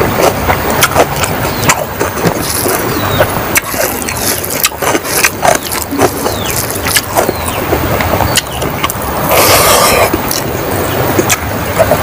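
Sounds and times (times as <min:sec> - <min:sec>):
chewing with wet mouth smacks: 0:00.0 - 0:12.0
fingers squeezing rice and curry: 0:00.0 - 0:12.0.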